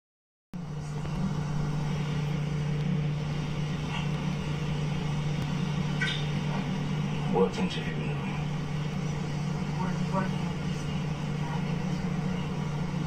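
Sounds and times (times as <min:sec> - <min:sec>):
steady low hum: 0:00.6 - 0:13.0.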